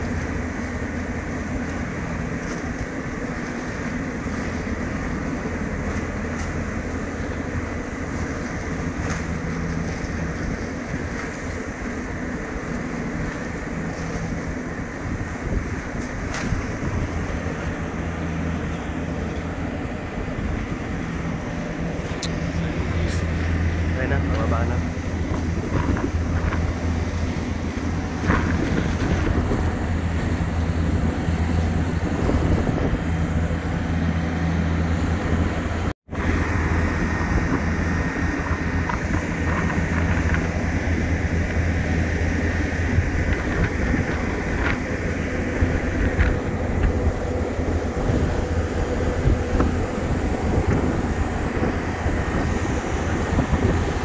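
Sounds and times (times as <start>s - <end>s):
diesel engine drone: 0.0s - 54.0s
wind buffeting microphone: 0.0s - 54.0s.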